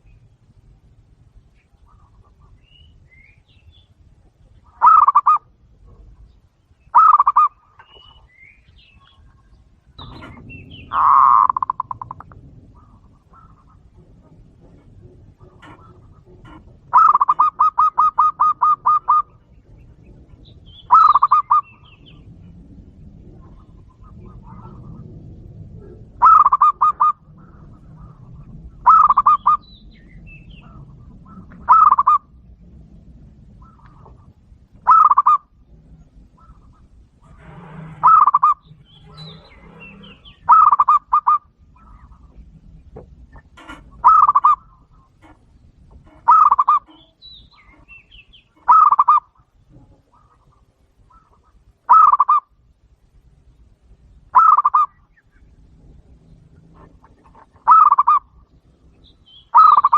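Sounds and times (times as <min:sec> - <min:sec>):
doves calling: 0:00.0 - 0:59.9.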